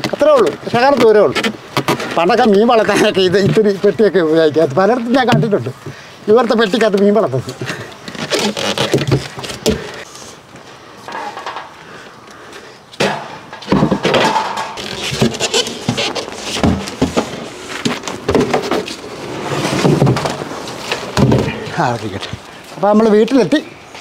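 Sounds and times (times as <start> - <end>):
objects knocking and scraping: 0.0 - 6.0, 6.6 - 10.1, 11.0 - 11.8, 13.0 - 22.5.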